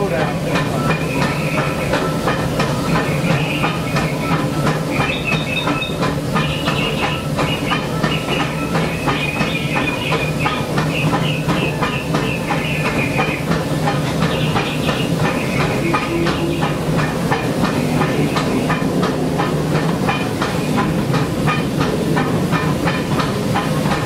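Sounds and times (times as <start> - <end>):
steam hissing: 0.0 - 24.0
wheels clattering over rail joints: 0.0 - 24.0.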